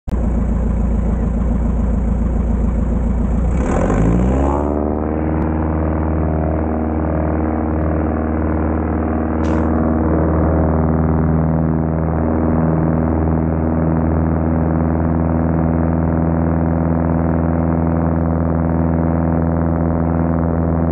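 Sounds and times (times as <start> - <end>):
plane engine and propeller: 0.1 - 20.9.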